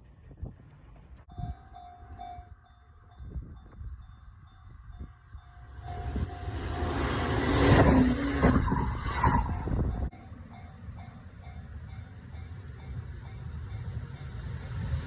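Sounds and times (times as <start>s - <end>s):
electric train passing: 1.3s - 15.0s.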